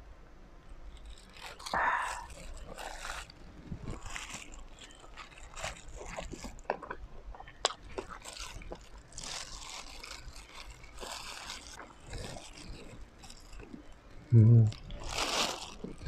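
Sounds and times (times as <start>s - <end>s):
plastic gloves rustling: 0.8s - 16.0s
chewing and mouth clicks: 0.9s - 16.0s.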